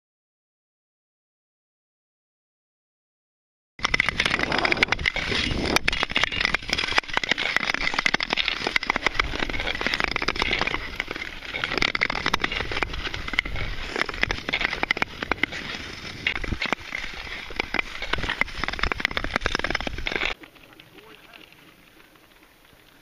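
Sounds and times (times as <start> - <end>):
skate blades scraping on ice: 3.8 - 23.0.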